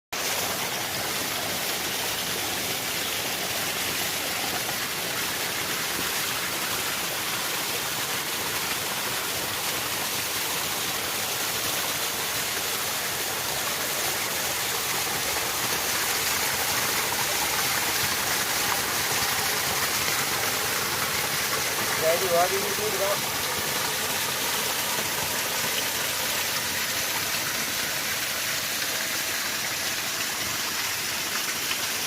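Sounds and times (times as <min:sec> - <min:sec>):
flowing water rushing: 0:00.2 - 0:32.0.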